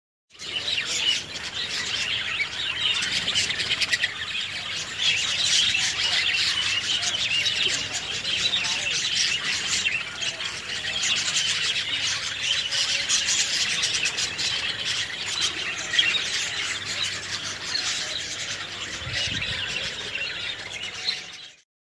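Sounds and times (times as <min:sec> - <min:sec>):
birds squawking and squealing: 0:00.3 - 0:21.6.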